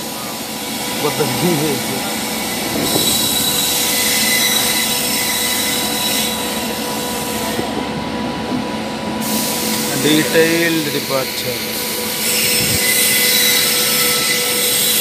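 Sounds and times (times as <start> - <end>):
high wheel squeal: 0.0 - 7.7, 9.2 - 15.0
train wheels rumbling on rails: 0.0 - 15.0.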